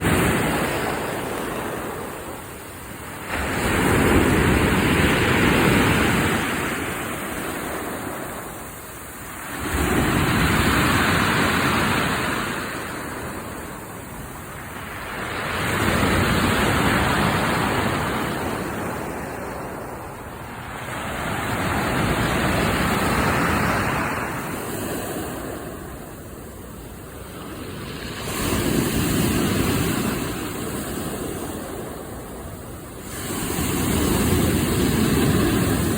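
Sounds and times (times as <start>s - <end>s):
waves washing up a beach: 0.0s - 35.9s.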